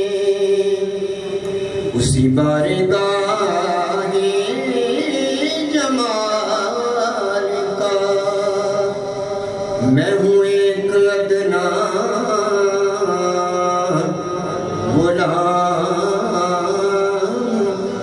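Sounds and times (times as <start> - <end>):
man singing into microphone: 0.0 - 18.0
steady held drone: 0.0 - 18.0.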